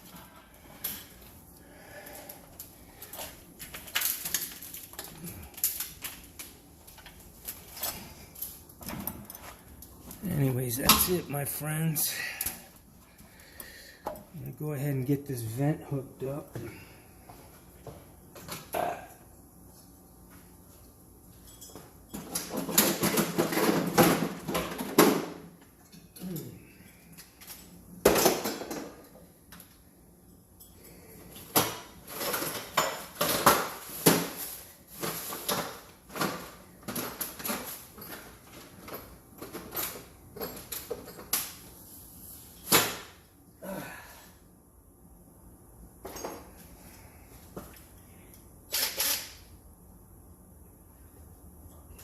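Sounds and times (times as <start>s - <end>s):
vent parts clattering and scraping: 0.0s - 18.8s, 19.6s - 43.3s.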